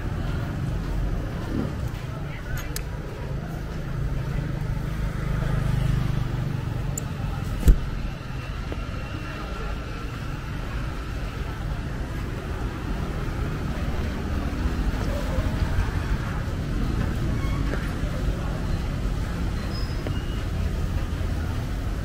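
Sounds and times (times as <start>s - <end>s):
motorbike and car engines: 0.0s - 22.0s.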